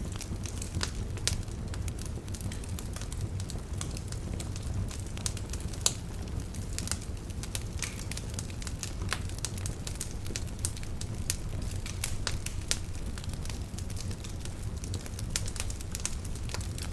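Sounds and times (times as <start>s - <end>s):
log fire crackling: 0.0s - 16.9s.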